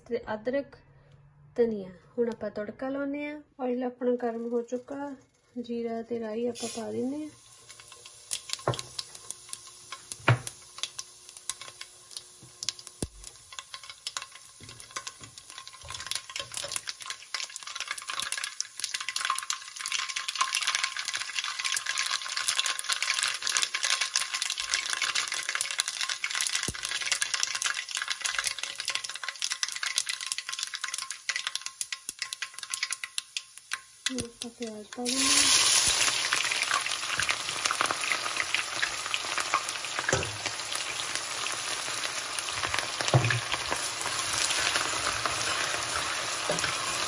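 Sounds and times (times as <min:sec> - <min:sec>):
seeds sizzling in hot oil: 0:06.3 - 0:47.0.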